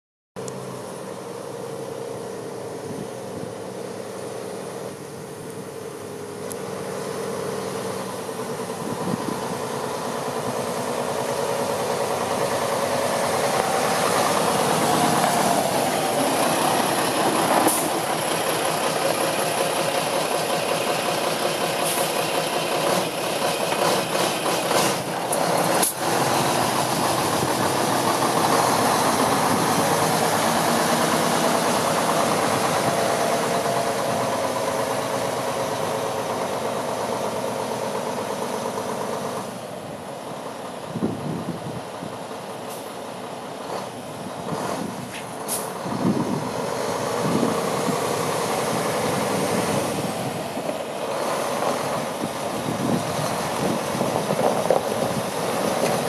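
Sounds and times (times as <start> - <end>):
diesel truck engine idling: 0.4 - 56.0.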